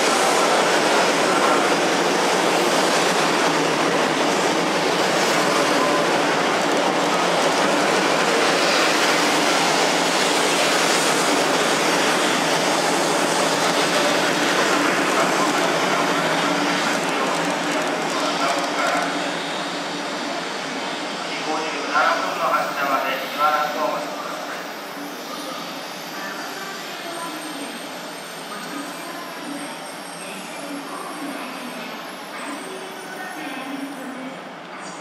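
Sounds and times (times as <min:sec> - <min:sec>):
train rushing past: 0:00.0 - 0:28.9.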